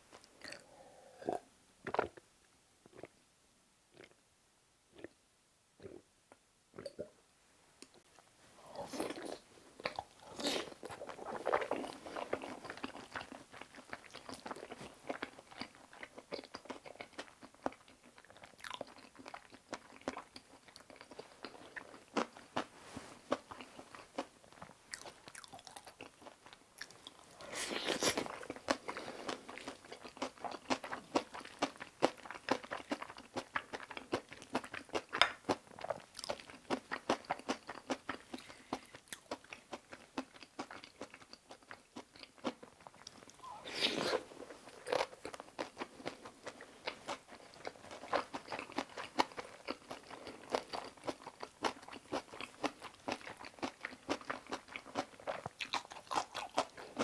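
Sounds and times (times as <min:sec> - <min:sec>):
chewing and crunching food: 0:07.9 - 0:57.0.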